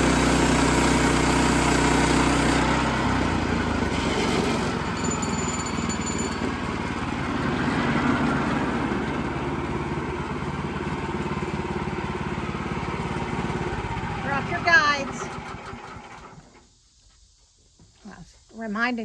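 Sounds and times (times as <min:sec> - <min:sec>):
small gasoline engine running: 0:00.0 - 0:16.6.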